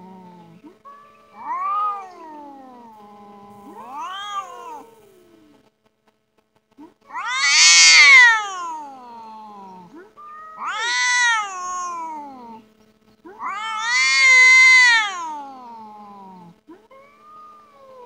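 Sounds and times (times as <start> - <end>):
cat yowling: 0.0 - 5.6, 7.1 - 12.6, 13.3 - 18.0.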